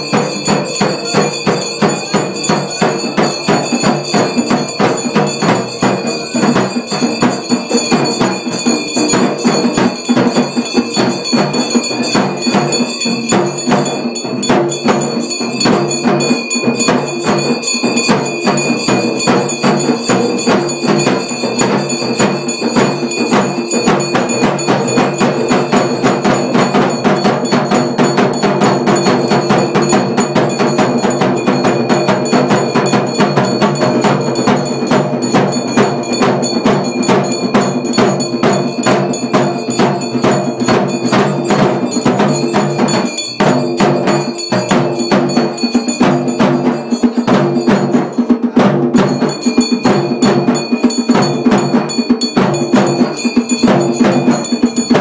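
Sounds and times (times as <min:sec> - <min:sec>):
percussion: 0:00.0 - 0:55.0
temple bells clanging: 0:00.0 - 0:55.0.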